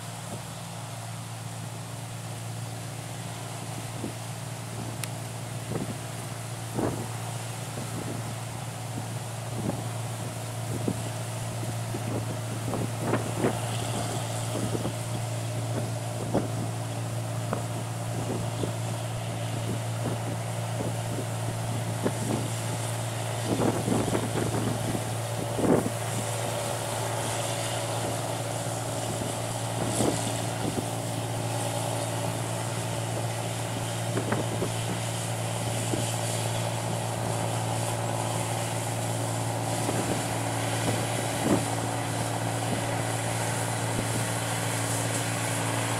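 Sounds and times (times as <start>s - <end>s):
harvester engine drone: 0.0s - 45.9s.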